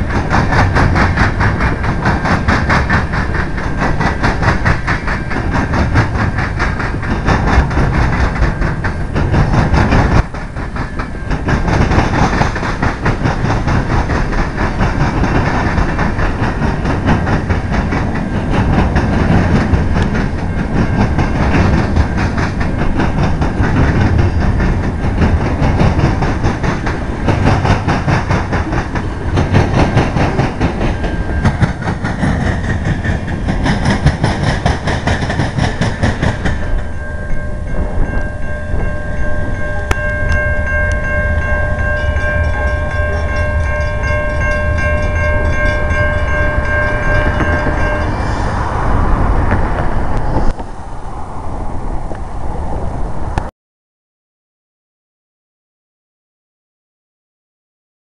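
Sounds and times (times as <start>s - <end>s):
freight train wheels clattering: 0.0s - 50.8s.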